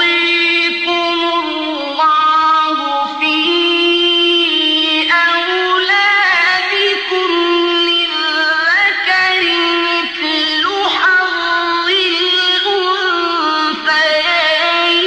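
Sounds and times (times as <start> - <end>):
person chanting melodically: 0.0 - 15.0.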